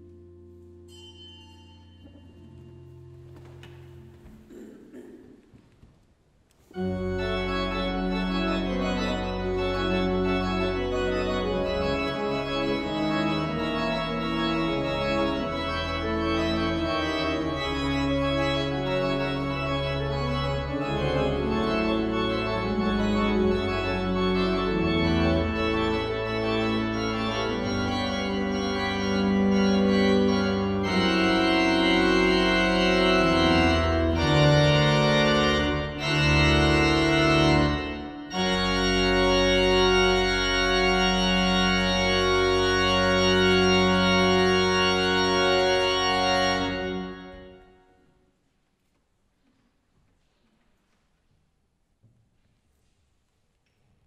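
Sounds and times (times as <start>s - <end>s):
church organ chords: 0.0s - 5.2s, 6.7s - 48.2s.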